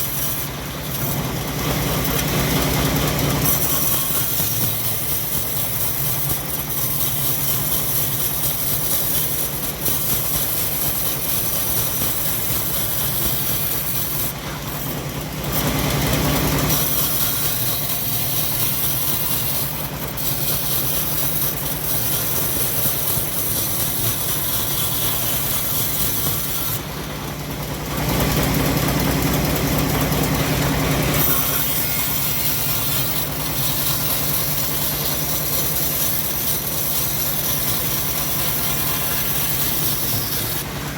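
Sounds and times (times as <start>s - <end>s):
band sawmill sawing logs: 0.0s - 40.9s.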